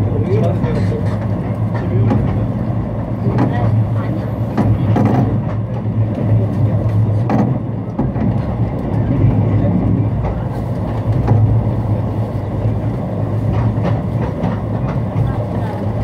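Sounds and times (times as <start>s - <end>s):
train interior low hum: 0.0s - 16.0s.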